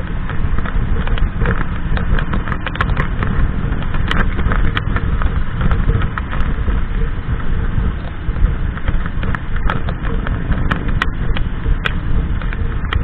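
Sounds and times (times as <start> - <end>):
motorcycle engine cruising: 0.0 - 13.0
wind buffeting microphone: 0.0 - 13.0.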